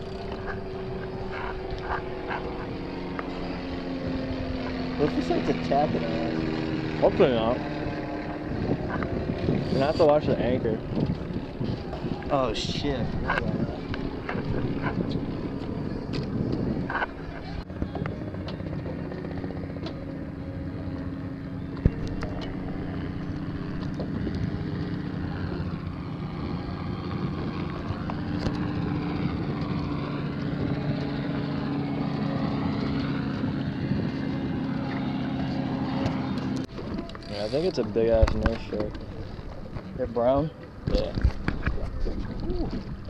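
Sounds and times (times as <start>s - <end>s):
small aircraft engine drone: 0.0s - 43.0s.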